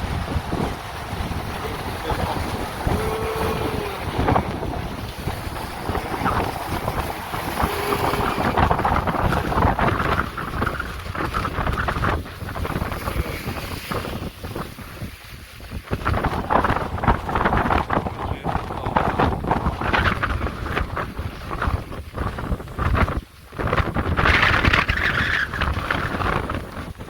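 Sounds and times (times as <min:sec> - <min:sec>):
wind buffeting the microphone: 0:00.0 - 0:27.0.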